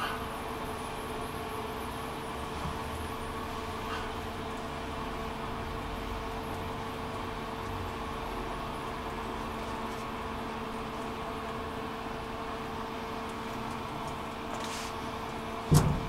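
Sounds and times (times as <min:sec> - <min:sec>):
ventilation machinery hum: 0:00.0 - 0:16.0.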